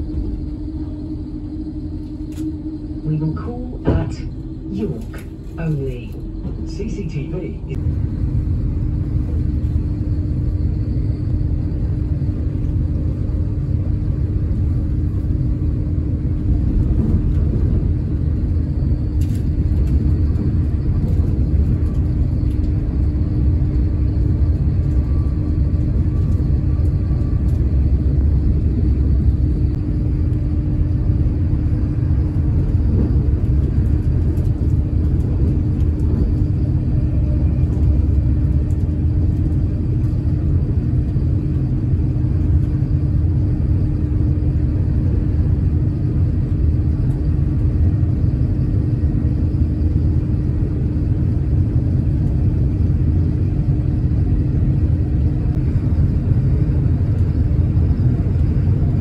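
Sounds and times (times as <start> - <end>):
constant hum: 0.0 - 59.0
train rumbling at speed: 0.0 - 59.0.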